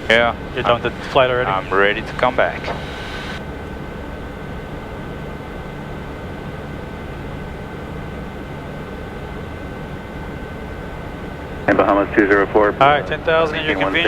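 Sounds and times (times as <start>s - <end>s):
airflow and jet engine rush: 0.0s - 14.0s
faint high-pitched whine: 0.0s - 14.0s.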